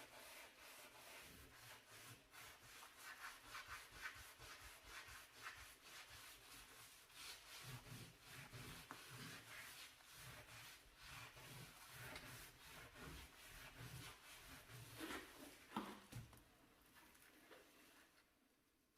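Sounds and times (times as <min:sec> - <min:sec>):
brush scrubbing a surface: 0:00.0 - 0:16.1.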